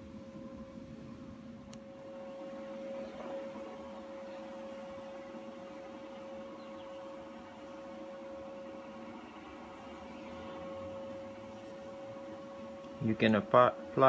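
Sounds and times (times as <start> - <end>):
steady mid-pitched hum: 0.0 - 14.0.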